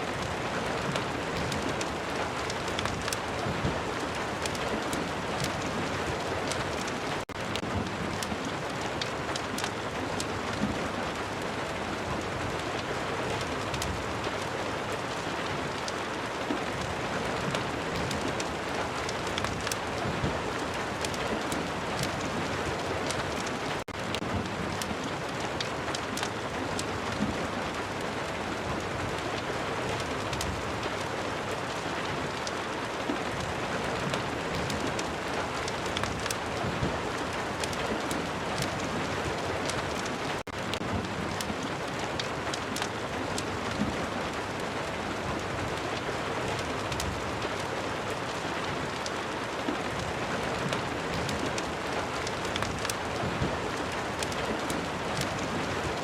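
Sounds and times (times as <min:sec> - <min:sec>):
heavy rain: 0:00.0 - 0:56.0
sharp crackles: 0:00.2 - 0:11.2, 0:12.6 - 0:27.8, 0:29.2 - 0:44.4, 0:46.5 - 0:56.0.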